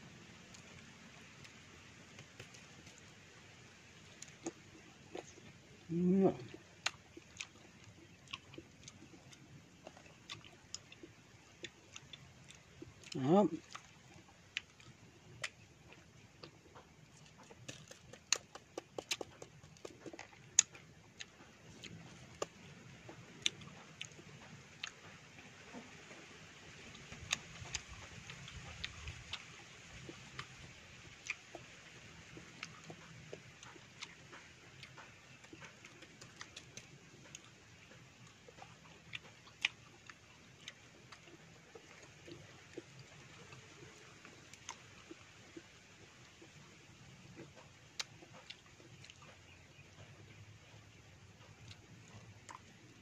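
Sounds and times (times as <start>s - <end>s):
low steady hum: 0.0s - 53.0s
person chewing fruit: 0.2s - 53.0s.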